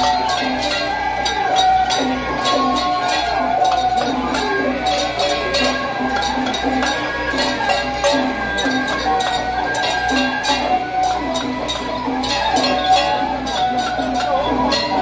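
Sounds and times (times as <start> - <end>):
cymbal crashes: 0.0 - 15.0
metallic clanging beat: 0.0 - 15.0
wavering melodic line: 0.0 - 15.0.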